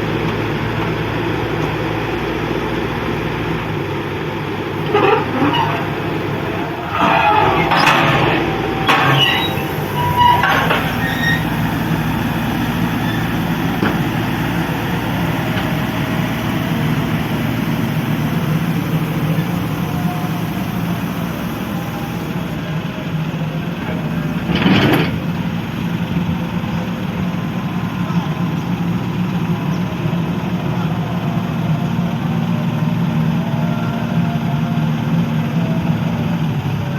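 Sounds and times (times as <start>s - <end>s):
heavy diesel machinery running: 0.0s - 36.9s.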